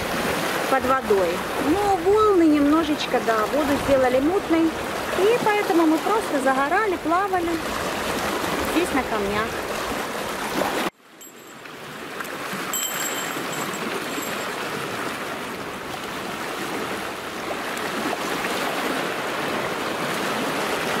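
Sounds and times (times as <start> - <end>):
small waves washing on shore: 0.0 - 21.0.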